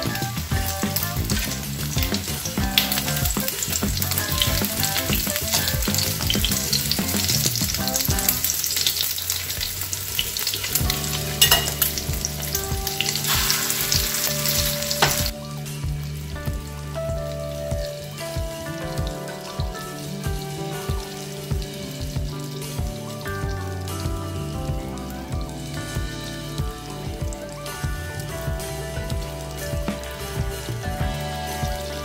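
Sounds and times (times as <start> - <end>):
food sizzling in hot oil: 0.0 - 16.3, 17.4 - 32.0.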